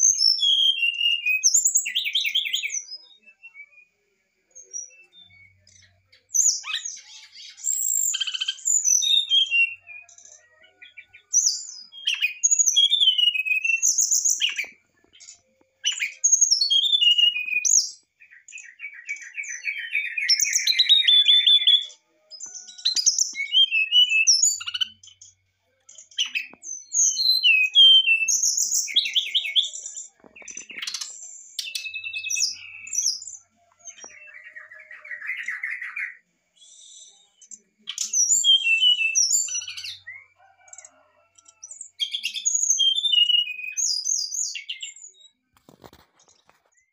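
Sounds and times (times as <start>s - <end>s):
bird whistled song: 0.0s - 45.8s.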